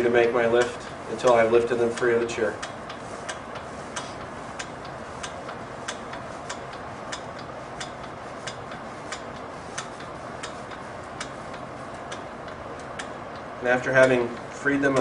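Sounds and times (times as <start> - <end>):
hydraulic pump clicking: 0.0 - 15.0.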